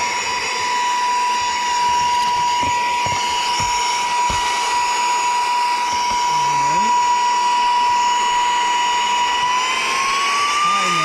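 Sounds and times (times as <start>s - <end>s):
handheld vacuum whining: 0.0s - 11.0s.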